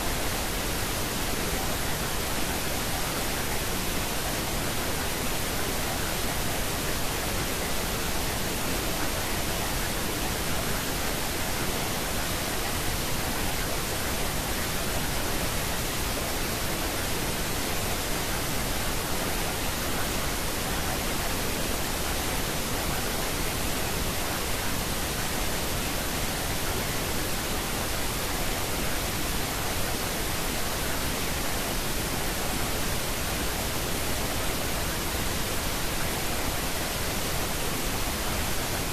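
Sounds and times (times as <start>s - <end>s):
steady noise hiss: 0.0s - 38.9s.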